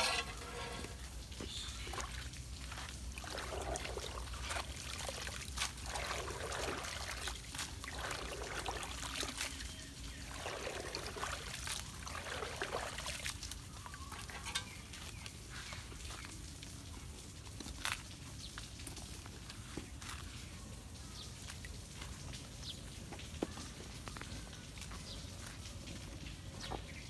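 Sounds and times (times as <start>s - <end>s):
water trickling and sloshing: 0.0s - 27.0s.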